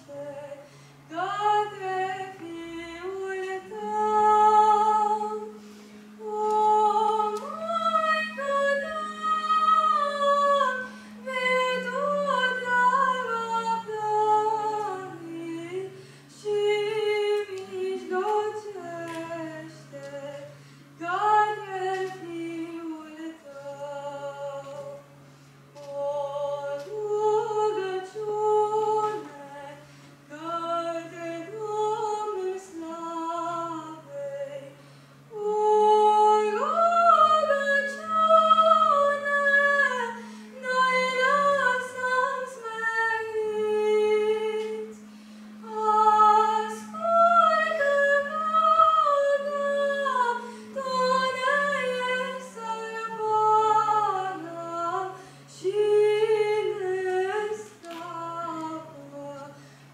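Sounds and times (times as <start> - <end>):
low steady drone note: 0.0 - 59.9.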